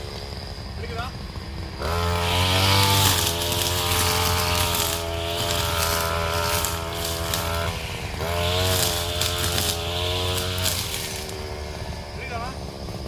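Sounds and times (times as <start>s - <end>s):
brush cutter engine at high revs: 0.0s - 13.0s.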